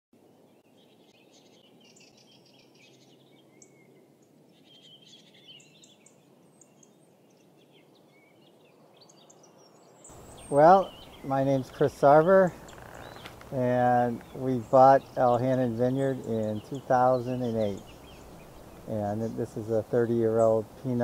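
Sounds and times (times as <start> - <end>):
faint songbirds chirping: 0.2 - 21.0
low background noise: 0.2 - 21.0.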